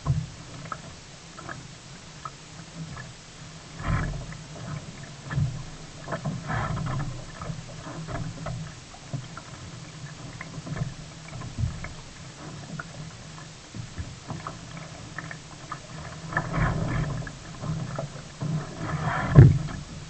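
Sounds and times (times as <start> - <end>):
water splashing against paddle: 0.0 - 20.0.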